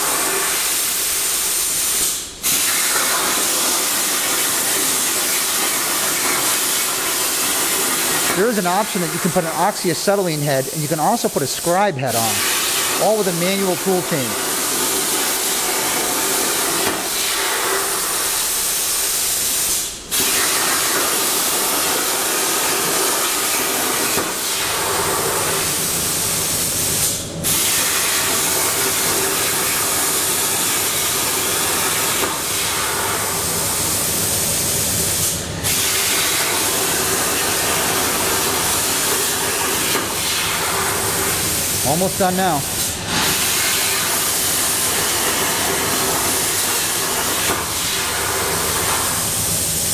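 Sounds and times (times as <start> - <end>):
plasma torch cutting metal: 0.0 - 49.9.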